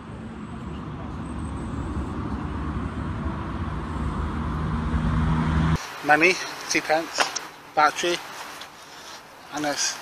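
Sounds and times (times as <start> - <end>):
engine hum: 0.0 - 10.0
road traffic rumble: 0.0 - 10.0.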